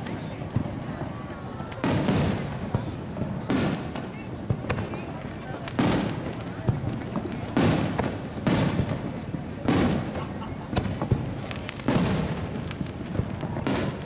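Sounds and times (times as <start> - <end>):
fireworks booming: 0.0 - 14.0
sharp firework cracks: 0.0 - 14.0.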